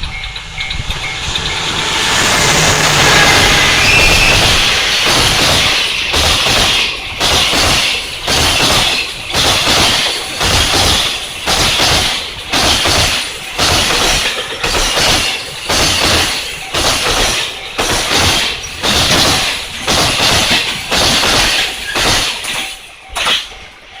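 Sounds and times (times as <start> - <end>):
freight train wagons rushing past: 0.0 - 24.0.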